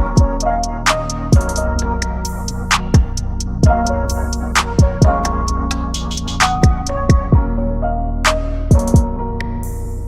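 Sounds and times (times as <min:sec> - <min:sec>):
hip hop music: 0:00.0 - 0:10.0.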